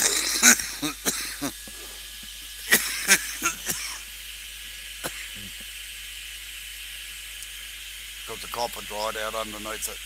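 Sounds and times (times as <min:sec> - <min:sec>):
heat gun blowing air: 0:00.0 - 0:10.0.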